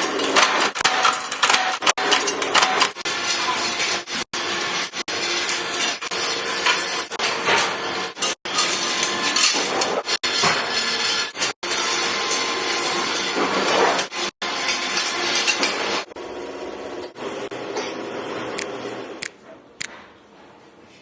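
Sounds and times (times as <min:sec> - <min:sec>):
harsh workshop tool noise: 0:00.0 - 0:20.6.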